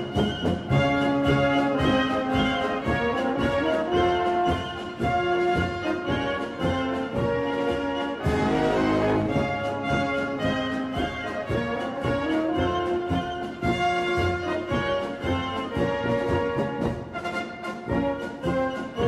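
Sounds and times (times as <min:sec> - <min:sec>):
brass-led orchestral music: 0:00.0 - 0:19.0.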